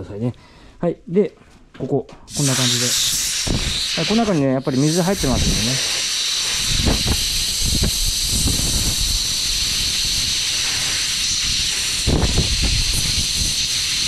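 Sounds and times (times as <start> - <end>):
compressed air hissing from blow gun: 2.3 - 14.0.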